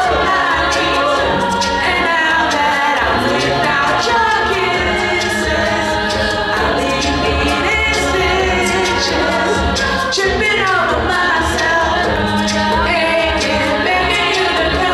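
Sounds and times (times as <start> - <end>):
choir singing in harmony: 0.0 - 14.9
deep vocal bass: 0.0 - 14.9.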